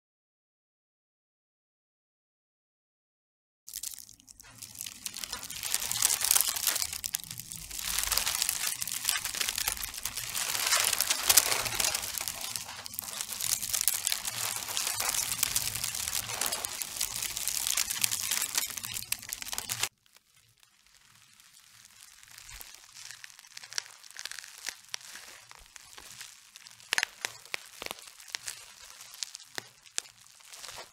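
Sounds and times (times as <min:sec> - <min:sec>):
metallic foil crinkling: 0:03.7 - 0:30.9.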